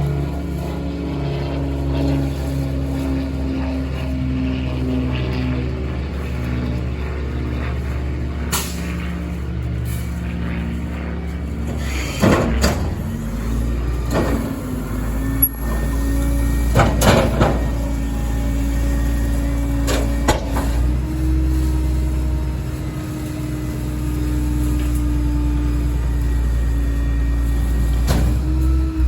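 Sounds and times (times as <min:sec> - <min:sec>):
diesel engine running: 0:00.0 - 0:29.0
hydraulic whine: 0:00.0 - 0:29.0.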